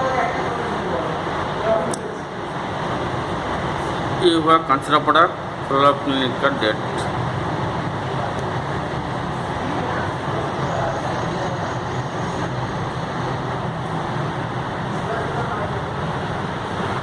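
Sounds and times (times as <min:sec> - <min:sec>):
steady background rumble: 0:00.0 - 0:17.0.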